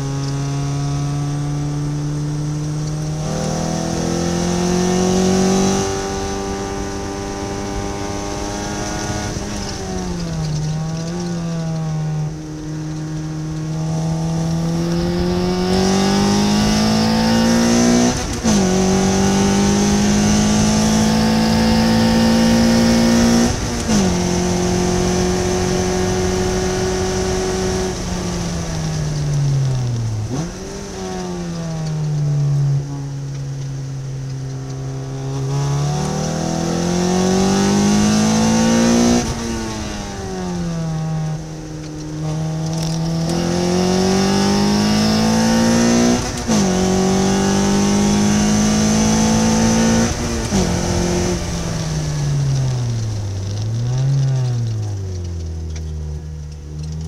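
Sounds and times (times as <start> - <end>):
car engine revving with gear shifts: 0.0 - 57.0.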